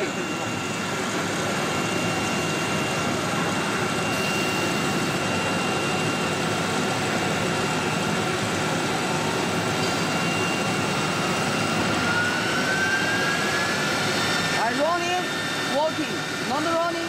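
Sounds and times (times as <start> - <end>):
cnc router running: 0.0 - 17.0
high-pitched machine whine: 0.0 - 17.0.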